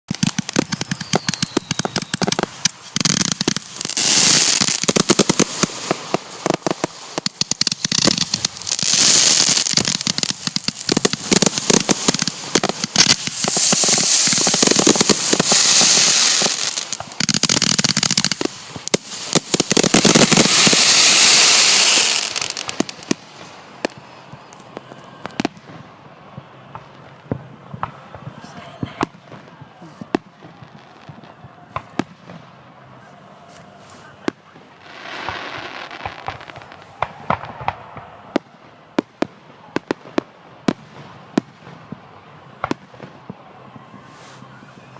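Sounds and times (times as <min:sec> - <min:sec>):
fireworks bangs and crackling: 0:00.1 - 0:44.9.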